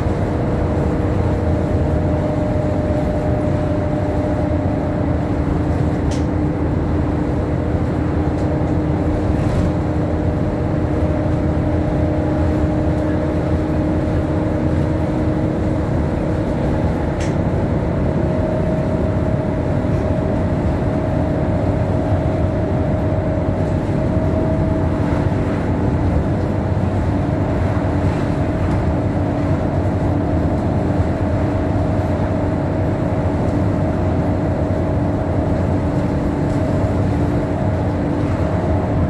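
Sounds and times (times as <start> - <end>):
bus engine and road rumble: 0.0 - 39.0
steady whine: 0.0 - 39.0.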